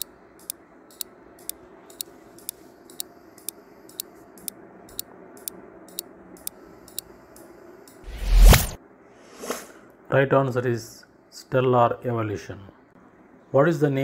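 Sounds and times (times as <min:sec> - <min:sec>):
faint background hum: 0:00.0 - 0:14.0.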